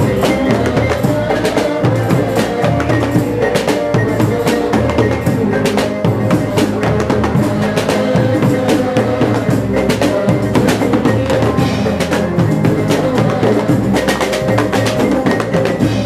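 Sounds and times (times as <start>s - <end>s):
drum kit beating: 0.0s - 16.0s
hand percussion: 0.0s - 16.0s.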